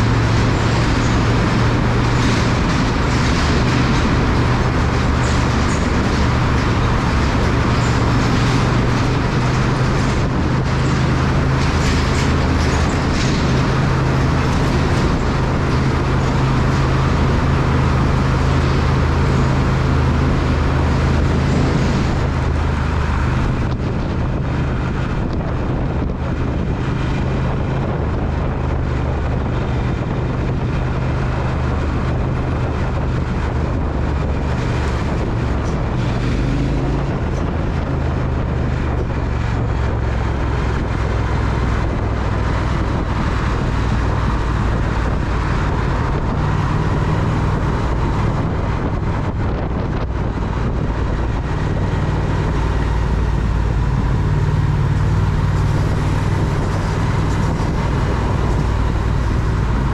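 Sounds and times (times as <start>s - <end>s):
motorcycle engine drone: 0.0s - 59.9s
wind and road noise: 0.0s - 59.9s.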